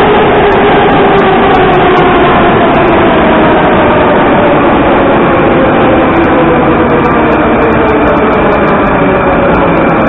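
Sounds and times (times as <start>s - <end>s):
train wheels and motors rumbling: 0.0s - 10.0s.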